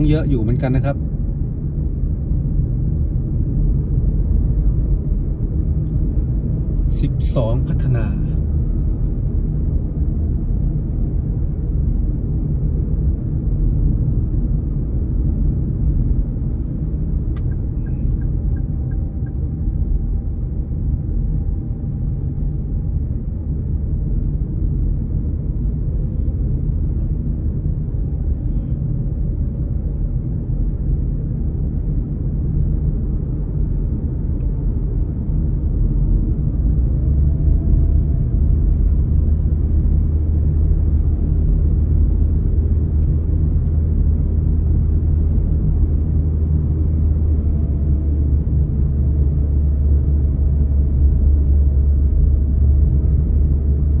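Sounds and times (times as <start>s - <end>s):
car cabin road rumble: 0.0s - 54.0s
faint whine: 0.0s - 54.0s.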